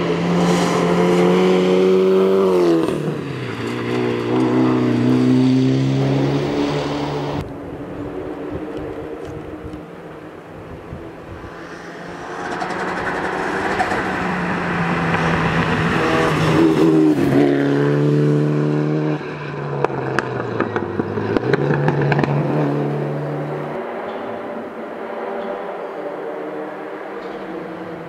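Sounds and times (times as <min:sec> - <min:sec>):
rally car engine passing: 0:00.0 - 0:28.0.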